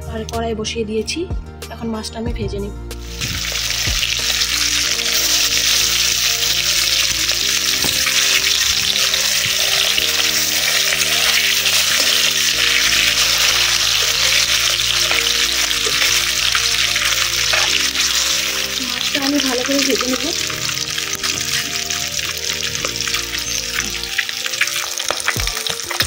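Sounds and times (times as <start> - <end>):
fish sizzling in hot oil: 3.0 - 26.0.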